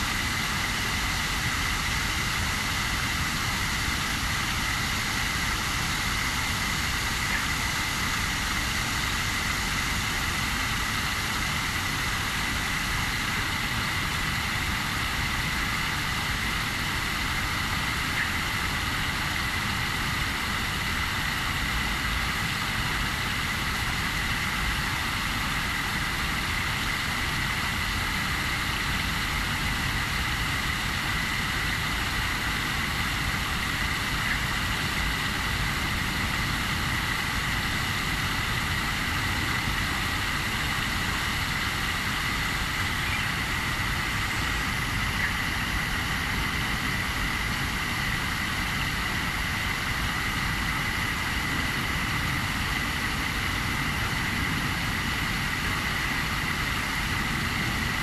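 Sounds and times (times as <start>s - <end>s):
high-pitched hum: 0.0s - 58.0s.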